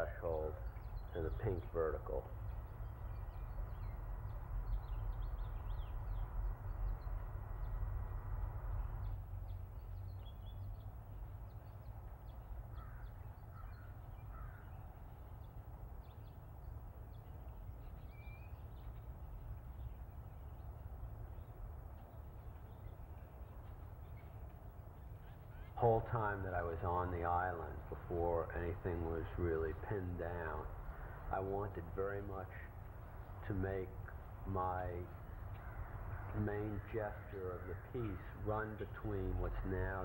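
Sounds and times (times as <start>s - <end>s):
birds calling: 0.0s - 40.0s
steady low rumble: 0.0s - 40.0s.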